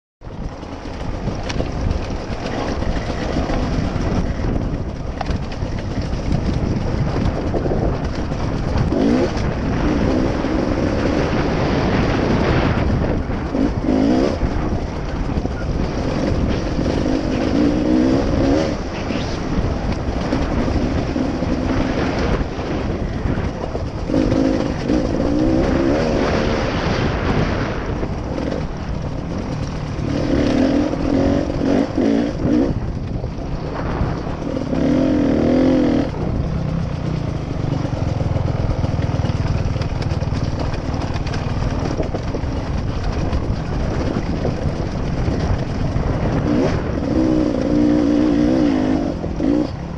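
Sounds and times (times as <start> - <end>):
steady rush of noise: 0.2 - 49.9
motorcycle engine revving: 0.3 - 49.9.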